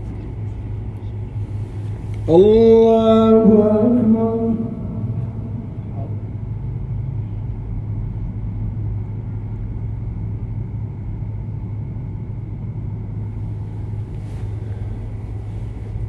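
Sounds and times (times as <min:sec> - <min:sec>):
low hum and rumble: 0:00.0 - 0:16.0.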